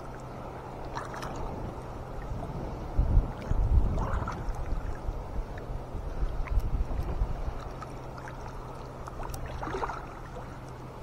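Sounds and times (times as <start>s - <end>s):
water sloshing and dripping: 0.0s - 2.5s, 3.1s - 11.0s.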